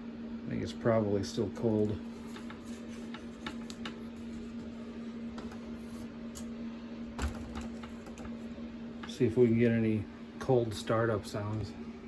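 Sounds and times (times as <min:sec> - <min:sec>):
space heater humming: 0:00.0 - 0:12.0.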